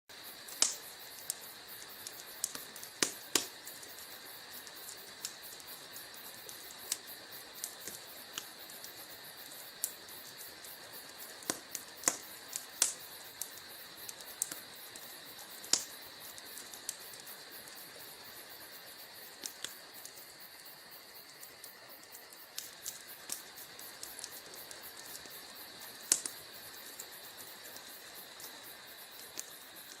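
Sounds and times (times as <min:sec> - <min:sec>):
wood fire crackling: 0:00.1 - 0:30.0.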